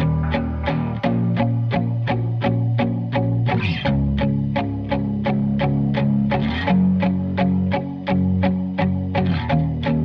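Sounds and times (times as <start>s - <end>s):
guitar-led pop music: 0.0s - 10.0s.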